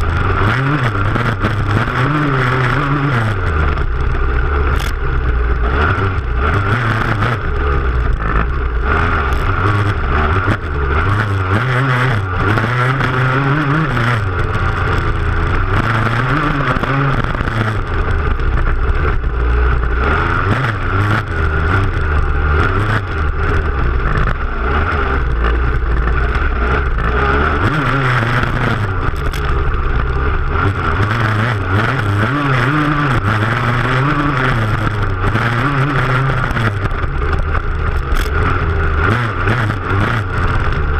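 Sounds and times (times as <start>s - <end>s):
motocross bike engine revving: 0.0s - 40.9s
rough ride noise: 0.0s - 40.9s.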